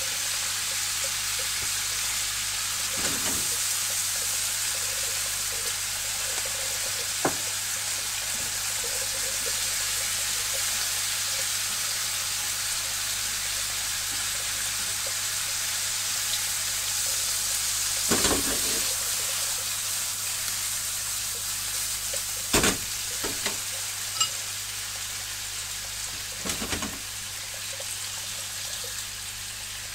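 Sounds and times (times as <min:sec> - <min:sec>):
food sizzling in a frying pan: 0:00.0 - 0:29.9.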